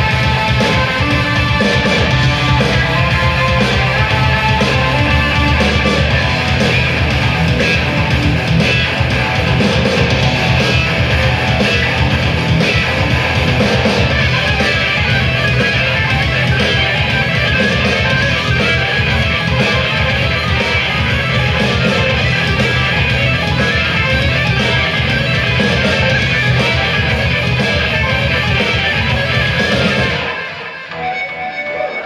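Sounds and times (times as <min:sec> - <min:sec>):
loud electric guitar: 0:00.0 - 0:32.0.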